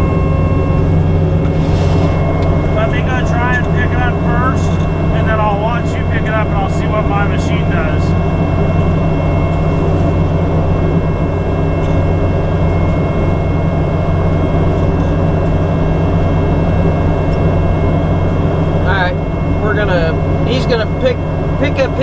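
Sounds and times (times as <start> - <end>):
excavator diesel engine running: 0.0 - 22.0
faint high whine: 0.0 - 22.0.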